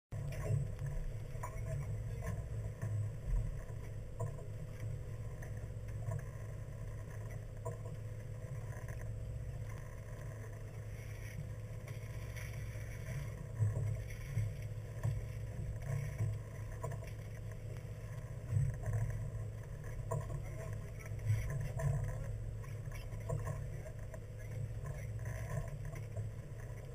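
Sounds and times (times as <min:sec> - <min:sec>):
faint steady hum: 0:00.1 - 0:26.9.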